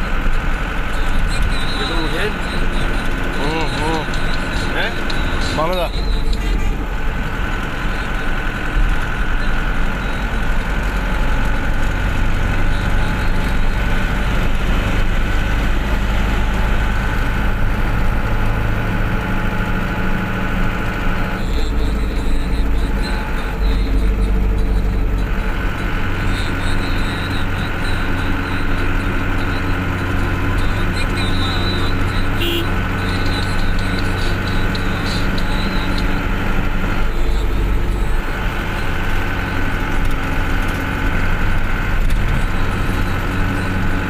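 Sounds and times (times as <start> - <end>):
vehicle engine drone and road noise: 0.0 - 44.0.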